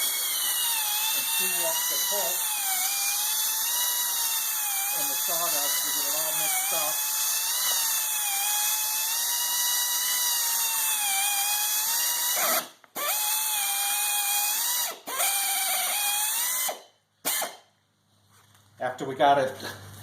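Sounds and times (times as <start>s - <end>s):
electric mixer whining: 0.0s - 16.1s.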